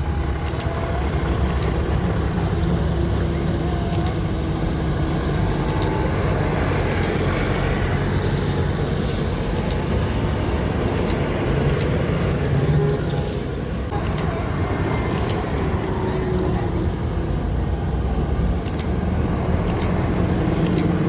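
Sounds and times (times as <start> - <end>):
tractor engines droning: 0.0 - 21.0.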